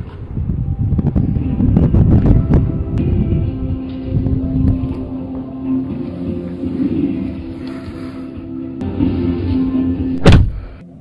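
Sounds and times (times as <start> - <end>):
background music with low tones: 0.0 - 11.0.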